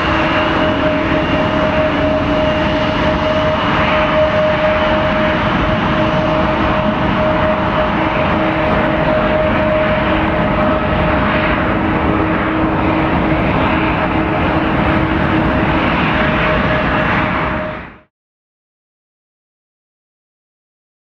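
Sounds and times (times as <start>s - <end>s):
jet engines roaring and whining: 0.0s - 18.1s.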